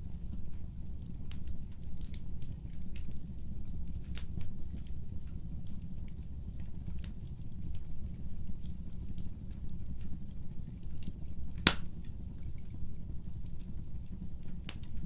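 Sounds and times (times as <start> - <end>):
fireplace fire crackling: 0.0 - 15.0
low rumble of flames: 0.0 - 15.0.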